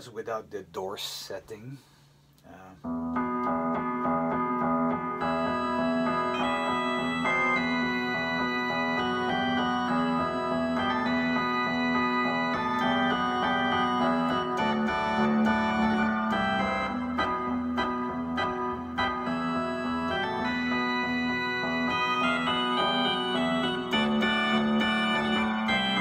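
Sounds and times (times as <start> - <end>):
electric piano bass: 2.8 - 26.0
sustained organ chords: 2.8 - 26.0.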